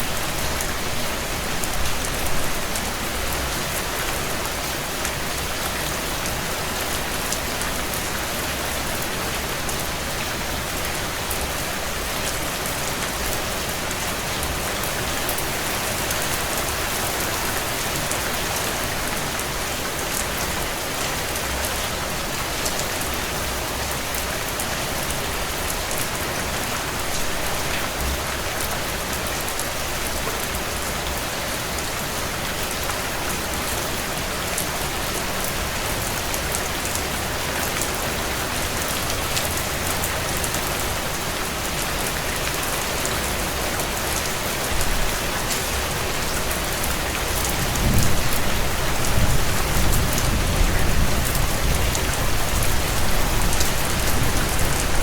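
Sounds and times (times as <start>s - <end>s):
heavy rain on windows: 0.0s - 55.0s.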